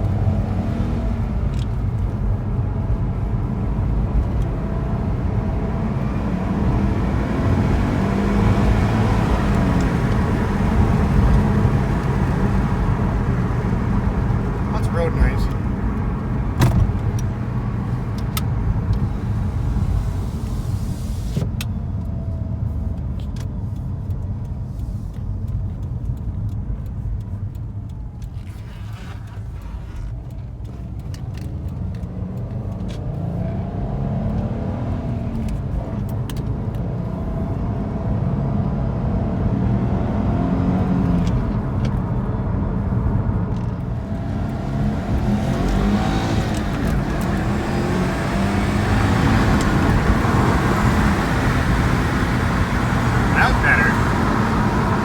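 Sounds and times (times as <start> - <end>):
car engine revving: 0.0 - 21.0, 31.9 - 55.0
road and tyre rumble: 0.0 - 55.0.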